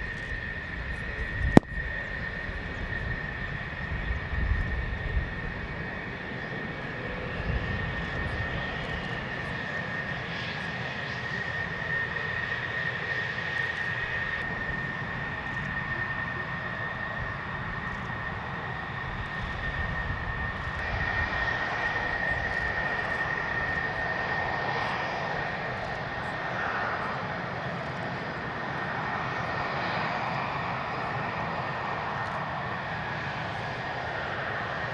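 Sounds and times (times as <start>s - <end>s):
jet engine whine and rumble: 0.0s - 34.9s.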